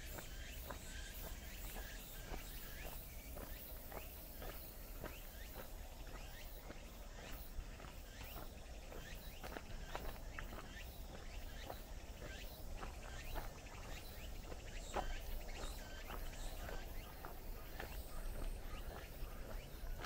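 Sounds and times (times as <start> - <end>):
faint bird chirps: 0.0 - 20.0
footsteps on paved path: 0.0 - 20.0.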